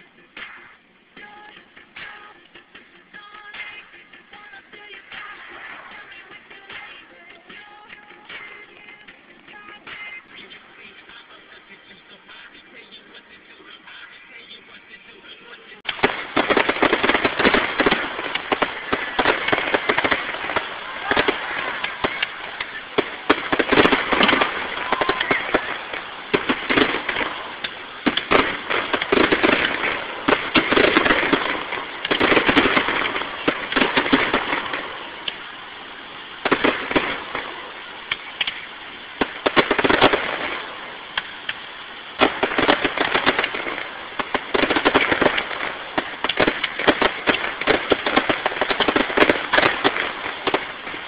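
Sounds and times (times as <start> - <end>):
fireworks bursting: 0.0 - 51.0.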